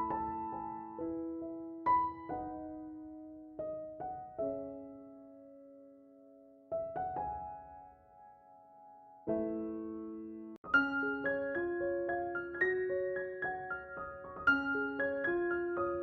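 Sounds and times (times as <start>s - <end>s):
slow soft solo piano: 0.0s - 16.0s.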